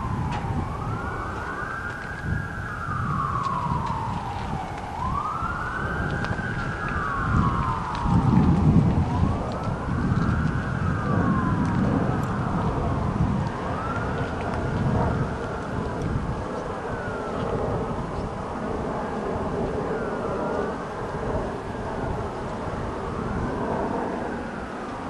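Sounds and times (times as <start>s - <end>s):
siren wailing: 0.0s - 25.0s
steady low rumble: 0.0s - 25.0s.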